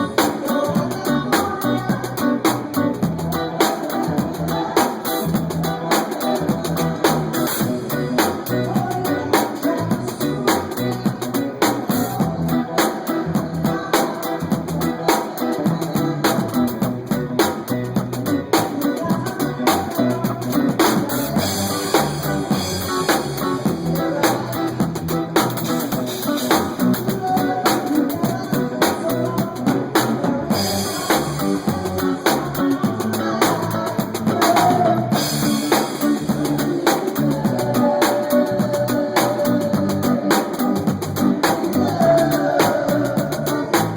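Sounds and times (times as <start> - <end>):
drum kit beat: 0.0 - 43.9
live band playing dance song: 0.0 - 43.9.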